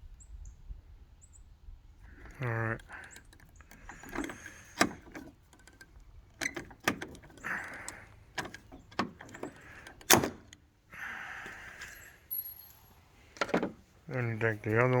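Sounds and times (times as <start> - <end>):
metal hardware clicking and knocking: 2.1 - 10.7, 11.4 - 15.0.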